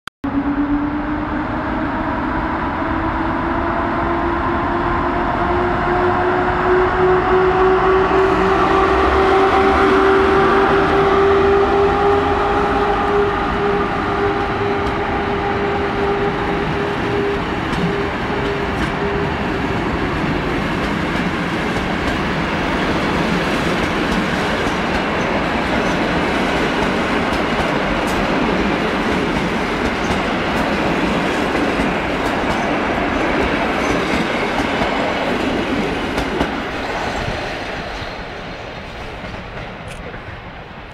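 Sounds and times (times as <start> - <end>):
electric locomotive whine: 0.2 - 40.9.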